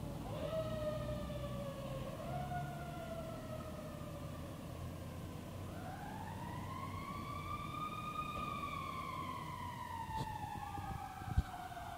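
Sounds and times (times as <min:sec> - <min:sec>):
fire siren wailing: 0:00.0 - 0:11.9.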